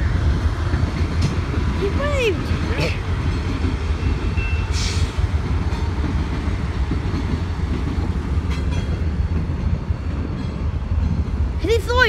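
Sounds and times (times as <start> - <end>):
freight train passing: 0.0 - 12.0.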